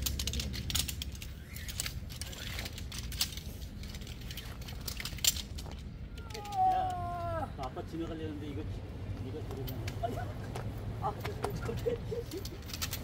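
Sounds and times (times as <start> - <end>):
camping gear clicking and clattering: 0.0 - 8.2, 9.0 - 13.0.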